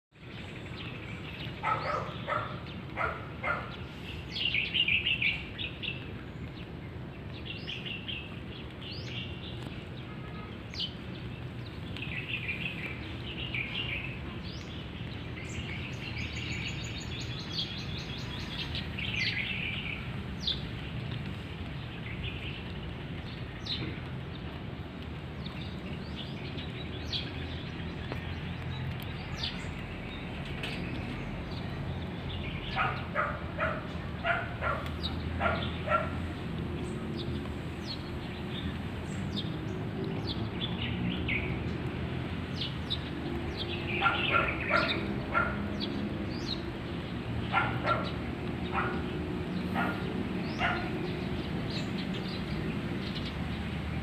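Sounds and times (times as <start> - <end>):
small birds chirping: 0.1 - 54.0.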